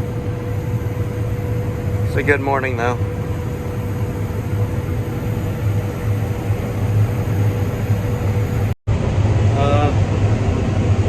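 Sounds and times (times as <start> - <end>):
faint steady whine: 0.0 - 10.7
combine harvester droning: 0.0 - 11.0.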